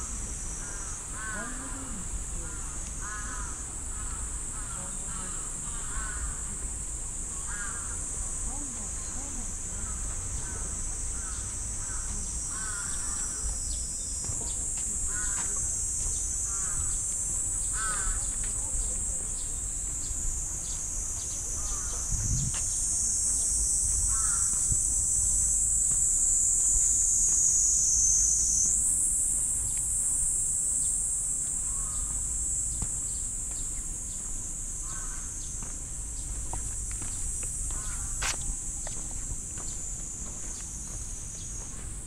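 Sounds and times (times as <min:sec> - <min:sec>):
insect chorus buzzing: 0:00.0 - 0:42.0
footsteps on paved path: 0:00.4 - 0:28.2, 0:29.4 - 0:42.0.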